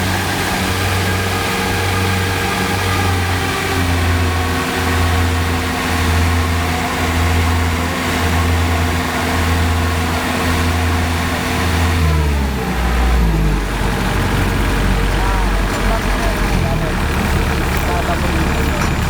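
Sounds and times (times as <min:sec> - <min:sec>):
combine harvester diesel engine running: 0:00.0 - 0:19.0.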